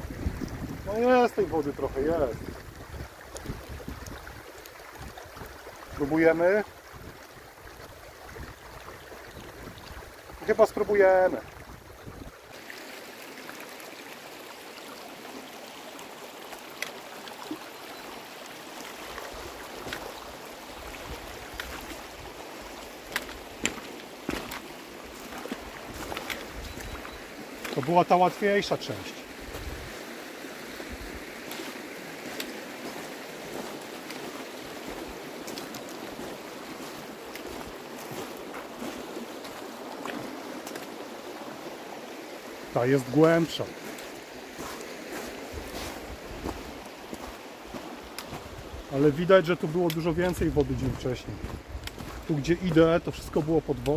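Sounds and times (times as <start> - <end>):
river water rushing over stones: 0.0 - 53.9.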